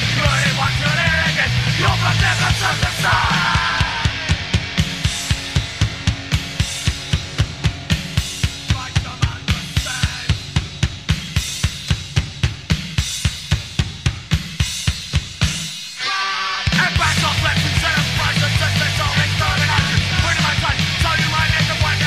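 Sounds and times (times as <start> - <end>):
rock drum beat with cymbals: 0.0 - 22.0.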